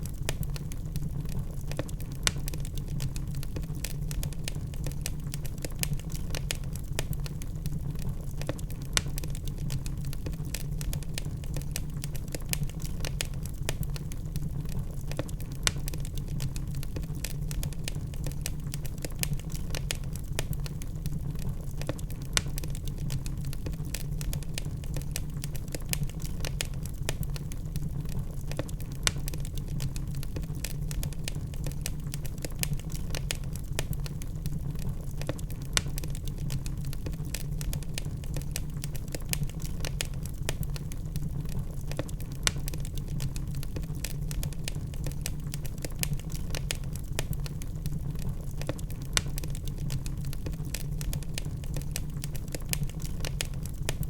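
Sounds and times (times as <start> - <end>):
loud fire pops: 0.0 - 54.0
wood fire crackling: 0.0 - 54.0.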